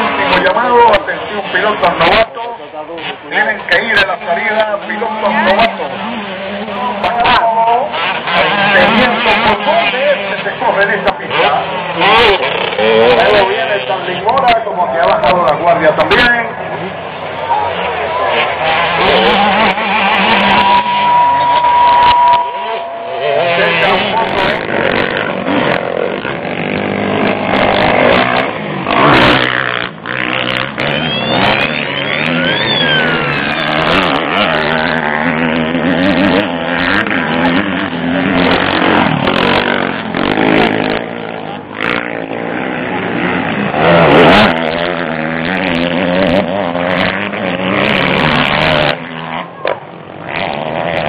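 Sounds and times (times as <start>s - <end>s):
motocross bikes revving: 0.0s - 51.0s.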